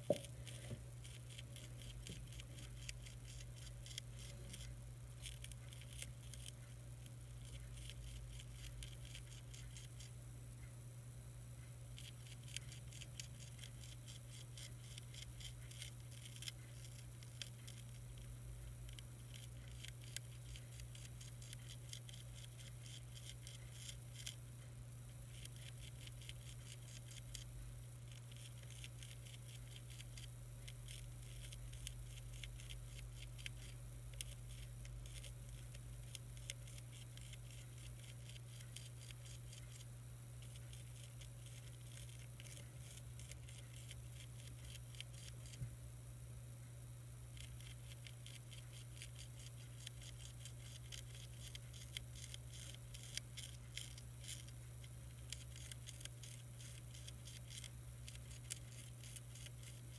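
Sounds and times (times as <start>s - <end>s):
caterpillars chewing a leaf: 0.0s - 10.7s, 11.6s - 45.9s, 46.8s - 59.9s
steady low hum: 0.0s - 59.9s.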